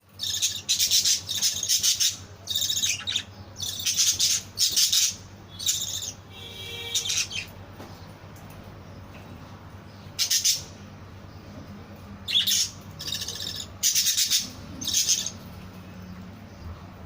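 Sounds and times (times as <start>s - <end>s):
lovebirds chirping: 0.1s - 17.0s.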